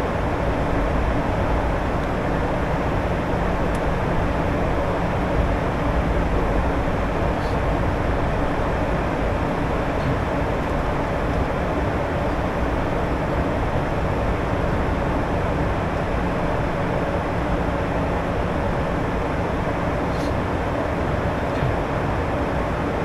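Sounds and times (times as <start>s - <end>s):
low jet engine hum: 0.0s - 23.0s.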